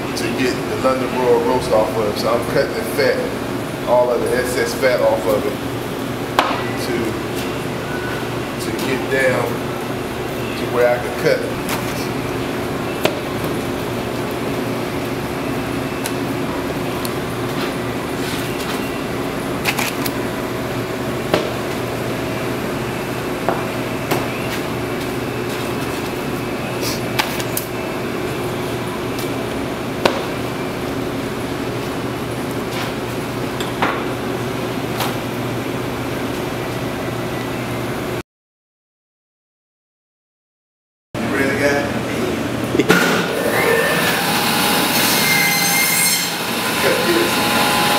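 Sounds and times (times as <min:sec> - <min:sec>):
fan humming: 0:00.0 - 0:38.2, 0:41.2 - 0:45.2, 0:46.3 - 0:47.9.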